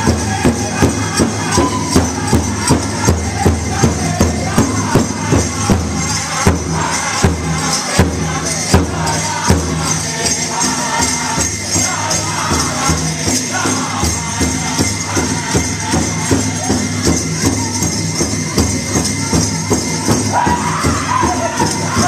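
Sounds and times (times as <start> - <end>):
ankle bells jingling: 0.0 - 22.0
big drum beat: 0.0 - 22.0
group singing: 0.0 - 22.0.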